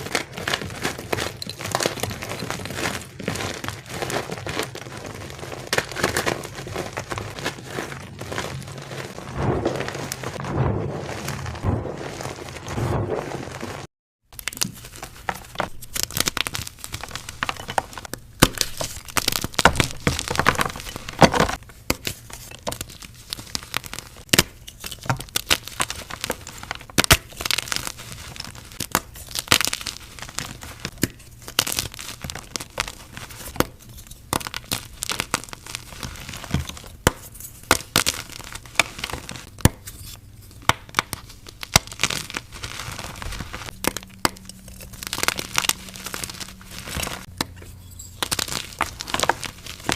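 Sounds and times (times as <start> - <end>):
chalk being crushed: 0.0 - 49.9.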